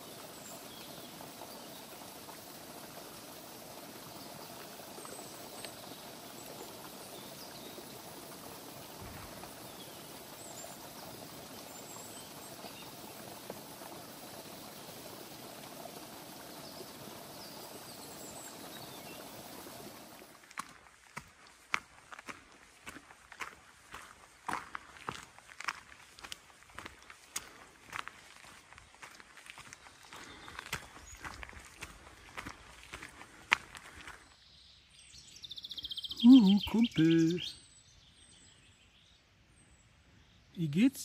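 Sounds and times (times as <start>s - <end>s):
small birds chirping: 0.0s - 20.3s, 26.0s - 41.0s
running water rushing: 0.0s - 34.2s.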